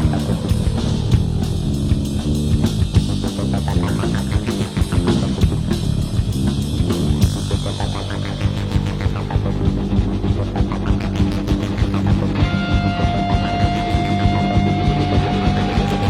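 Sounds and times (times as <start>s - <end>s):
bass notes: 0.0s - 16.0s
drum kit beat: 0.0s - 16.0s
electric guitar: 0.0s - 16.0s.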